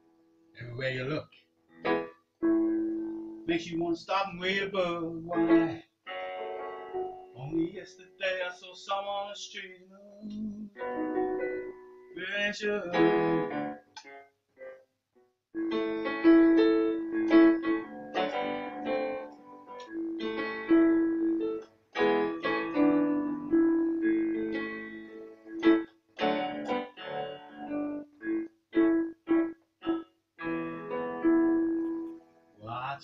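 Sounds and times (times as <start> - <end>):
digital piano chords: 0.0 - 1.1, 1.7 - 8.7, 10.3 - 14.9, 15.6 - 33.0.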